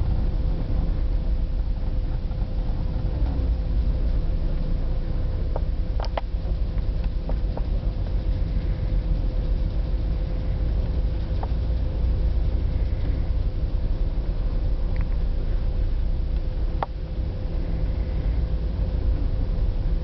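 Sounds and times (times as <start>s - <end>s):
faint steady hum: 0.0s - 20.0s
ferry low rumble: 0.0s - 20.0s.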